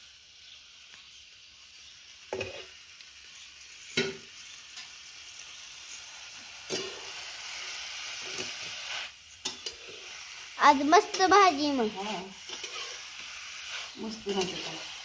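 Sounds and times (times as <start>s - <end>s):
beans sizzling in hot oil: 0.0s - 15.0s.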